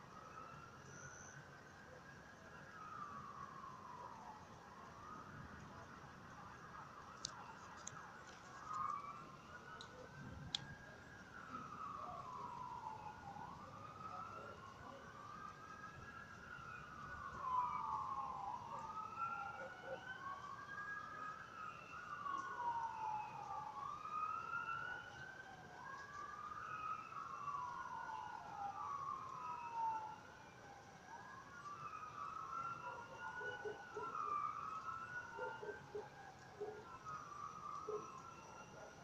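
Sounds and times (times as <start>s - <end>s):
distant siren wailing: 0.0s - 39.0s.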